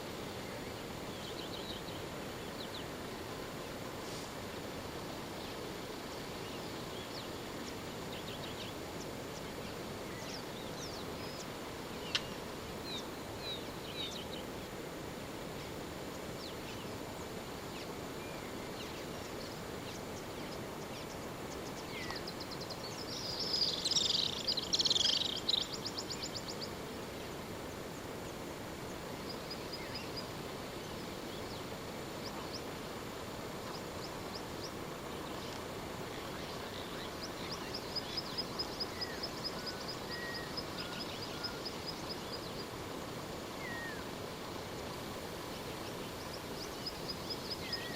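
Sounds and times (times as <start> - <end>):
outdoor background hiss: 0.0 - 47.9
birds chirping: 6.4 - 14.8, 15.6 - 47.9.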